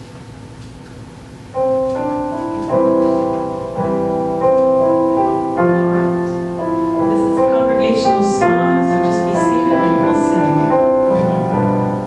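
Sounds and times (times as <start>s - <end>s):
keyboard playing slow chords: 1.2s - 12.0s.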